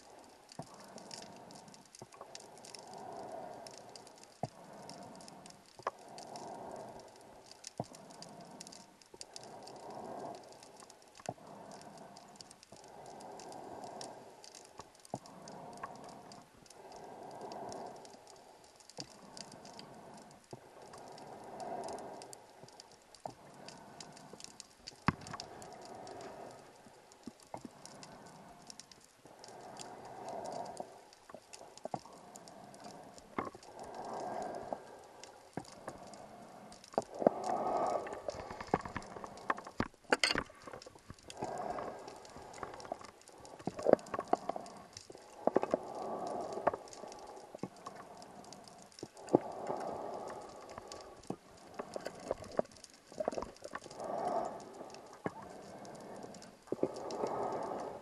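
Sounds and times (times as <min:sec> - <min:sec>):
fine crackle of clicks: 0:00.0 - 0:58.0
diver breathing through regulator: 0:00.7 - 0:22.8, 0:25.2 - 0:58.0.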